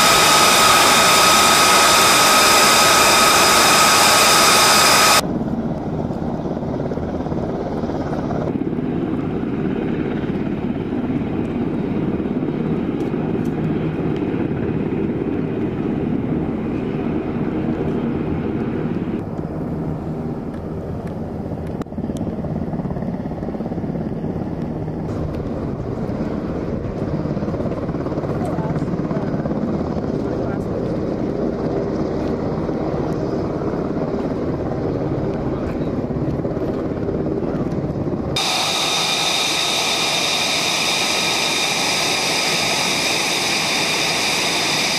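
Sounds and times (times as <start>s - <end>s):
jet engines rumbling: 0.0s - 22.4s, 24.1s - 44.9s.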